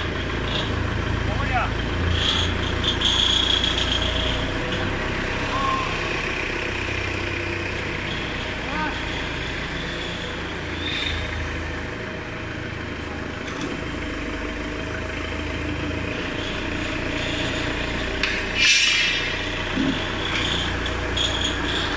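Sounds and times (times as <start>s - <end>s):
hydraulic pump humming: 0.0s - 21.9s.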